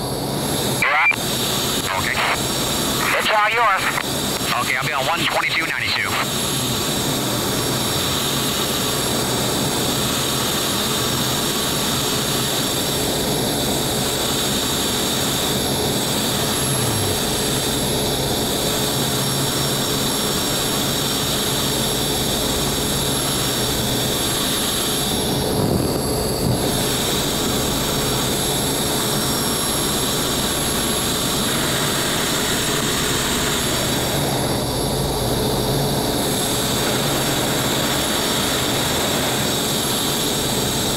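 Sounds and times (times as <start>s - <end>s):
jet engine whine: 0.0s - 40.9s.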